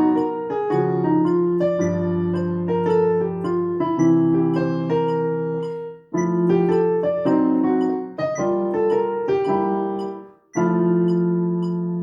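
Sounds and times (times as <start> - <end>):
jazz blues piano: 0.0 - 12.0.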